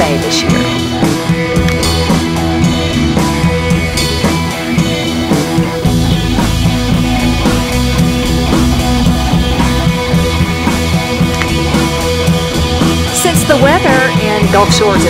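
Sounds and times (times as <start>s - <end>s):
music with guitar and drums: 0.0s - 15.0s.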